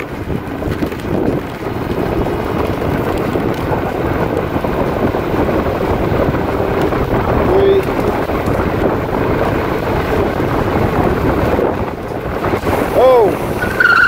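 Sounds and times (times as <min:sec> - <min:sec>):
electric scooter accelerating: 0:00.0 - 0:14.0
road noise: 0:00.0 - 0:14.0
wind buffeting microphone: 0:00.0 - 0:14.0.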